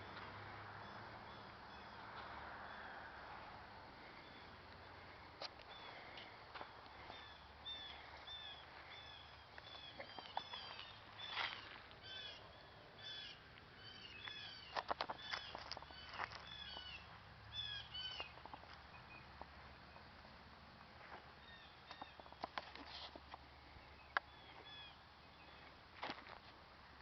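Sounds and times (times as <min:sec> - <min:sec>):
small birds chirping: 0:03.6 - 0:20.3, 0:21.0 - 0:26.2.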